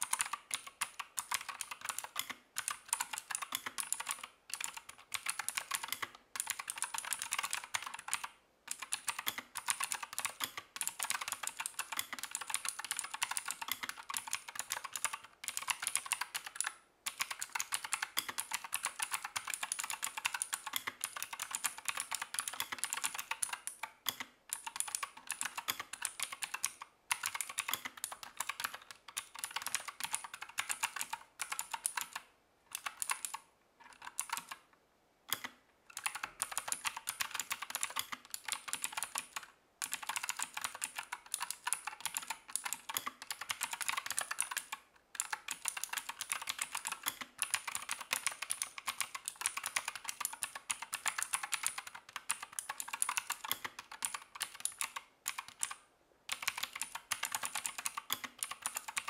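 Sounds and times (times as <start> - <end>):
fast typing on clicky keyboard: 0.0 - 34.6, 35.3 - 59.0.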